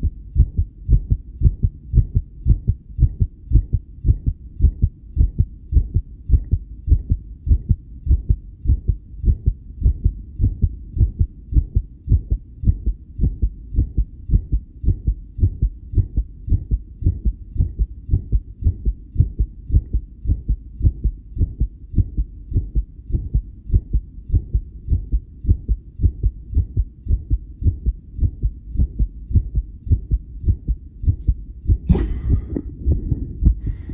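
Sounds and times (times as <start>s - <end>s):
heartbeat low thumps: 0.0s - 33.9s.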